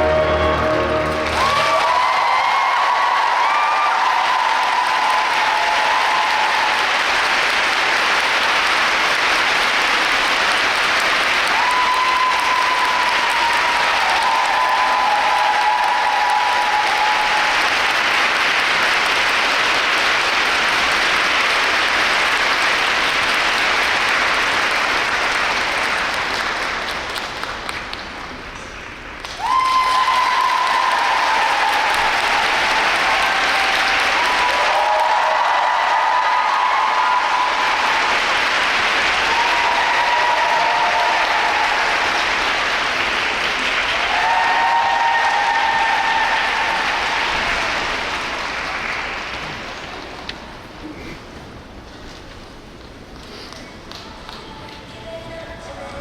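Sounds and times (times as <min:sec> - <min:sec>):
audience applauding: 0:00.0 - 0:51.8.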